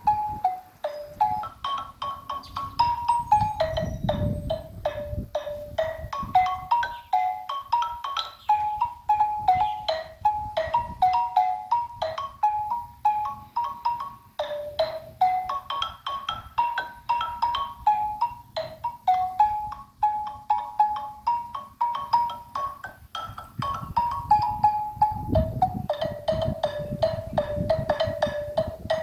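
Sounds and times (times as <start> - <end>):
xylophone melody: 0.0 - 29.0.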